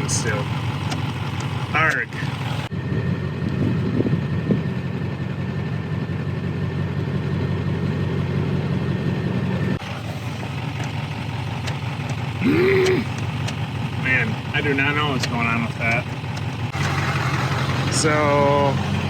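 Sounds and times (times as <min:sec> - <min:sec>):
pickup truck engine idling: 0:00.0 - 0:19.0.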